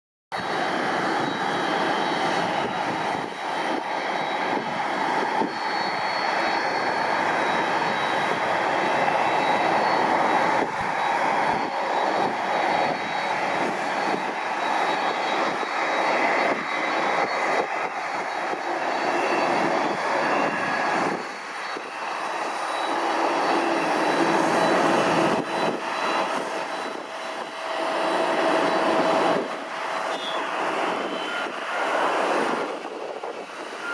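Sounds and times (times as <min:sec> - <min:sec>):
jet engines rushing and whining: 0:00.4 - 0:33.9.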